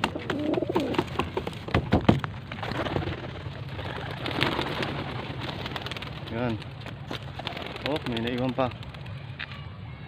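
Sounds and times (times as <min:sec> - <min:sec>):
pigeon wings flapping: 0:00.0 - 0:09.2.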